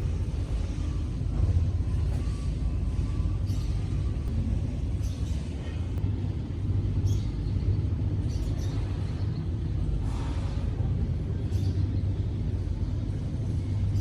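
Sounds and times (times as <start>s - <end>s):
low machine rumble: 0.0s - 14.0s.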